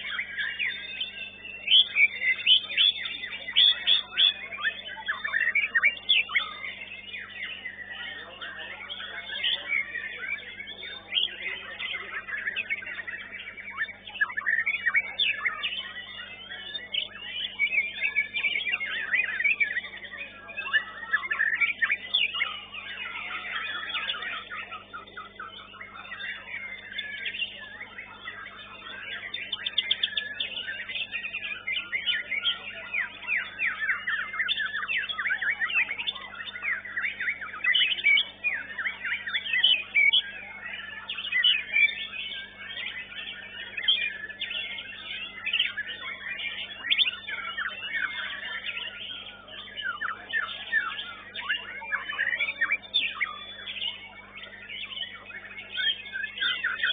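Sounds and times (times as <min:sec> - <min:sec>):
songbird singing with rapid trills: 0:00.0 - 0:56.9.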